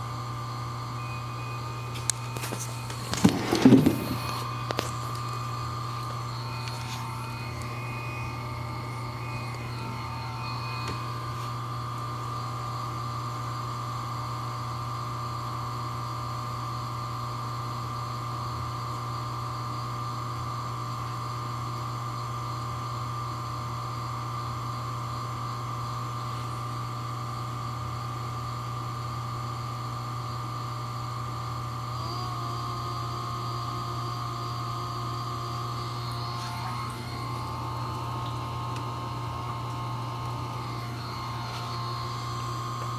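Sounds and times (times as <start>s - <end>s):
aquarium pump hum and whine: 0.0s - 42.9s.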